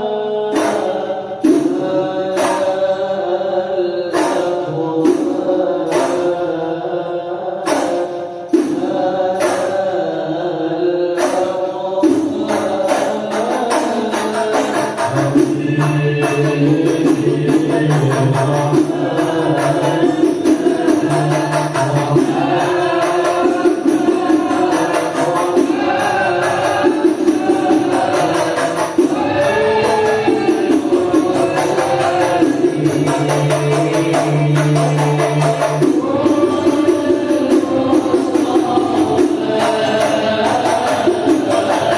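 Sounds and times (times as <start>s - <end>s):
voices singing: 0.0s - 41.9s
frame drums beating: 0.5s - 3.0s, 4.1s - 6.6s, 7.6s - 10.0s, 11.2s - 41.9s.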